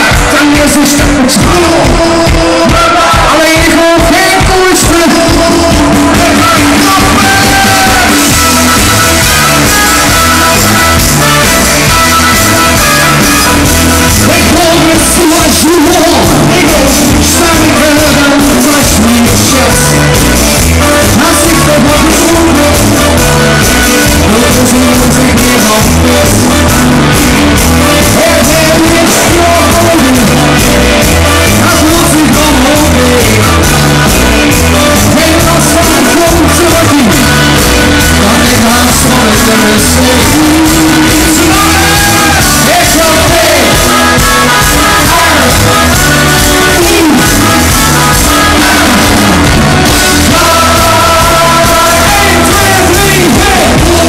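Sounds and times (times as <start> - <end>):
lead singer singing: 0.0 - 54.0
live rock band playing: 0.0 - 54.0.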